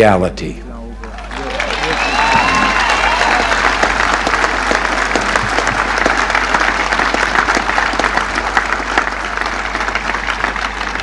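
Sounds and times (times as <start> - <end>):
crowd applauding: 1.0 - 11.0.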